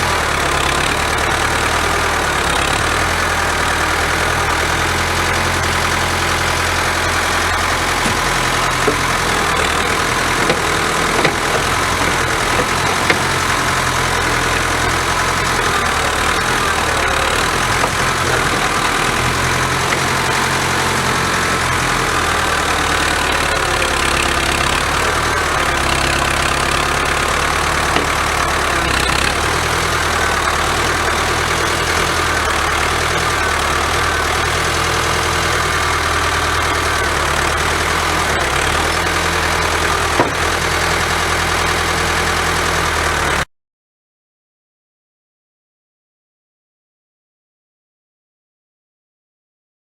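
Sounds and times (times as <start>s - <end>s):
diesel engine running: 0.0s - 43.5s.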